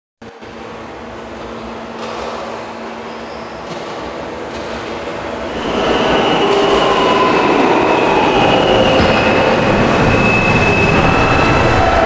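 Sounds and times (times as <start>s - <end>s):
subway train rumbling: 0.2s - 12.0s.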